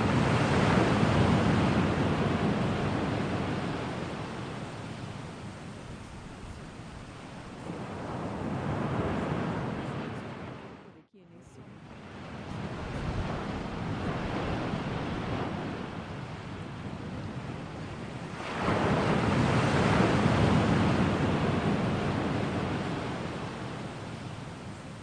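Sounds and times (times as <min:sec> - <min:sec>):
ocean surf washing on shore: 0:00.0 - 0:11.0, 0:11.7 - 0:25.0.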